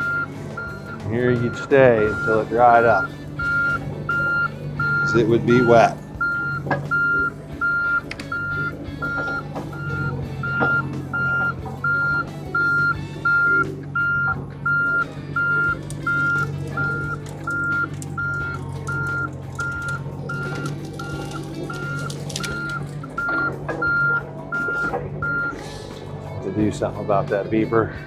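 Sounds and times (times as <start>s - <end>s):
diesel engine running: 0.0s - 28.0s
excavator travel alarm beeping: 0.0s - 28.0s.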